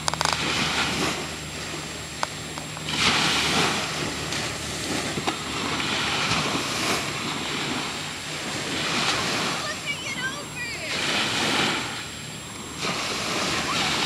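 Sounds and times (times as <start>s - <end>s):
surf washing up beach: 0.0s - 14.0s
wind rumbling on microphone: 0.0s - 14.0s.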